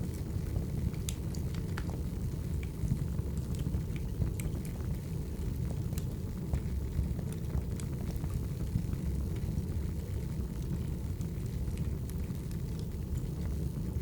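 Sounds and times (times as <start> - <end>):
logs crackling and popping: 0.0 - 14.0
wood fire rumbling: 0.0 - 14.0.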